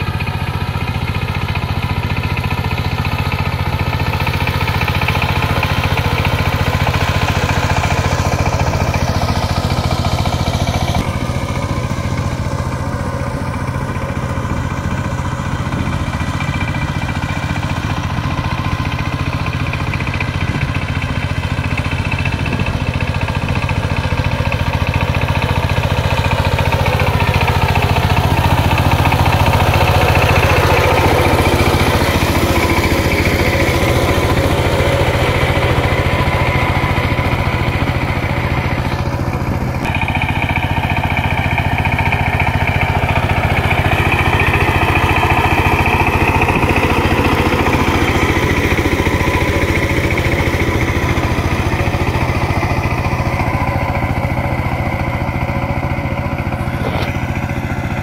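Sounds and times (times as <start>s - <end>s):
diesel engine running under load: 0.0s - 58.0s
rotary tiller churning soil: 0.0s - 58.0s.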